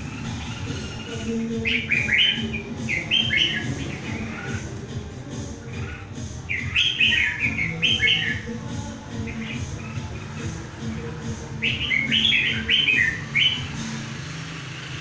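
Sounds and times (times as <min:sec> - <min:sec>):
bird warbling song: 0:00.0 - 0:15.0.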